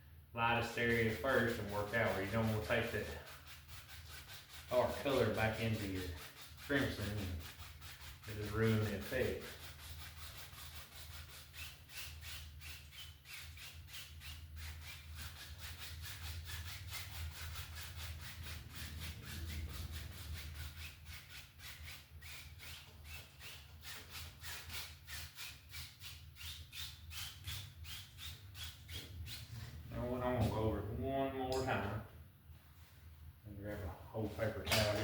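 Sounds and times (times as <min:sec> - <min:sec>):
brush scrubbing on canvas: 0:00.6 - 0:30.6.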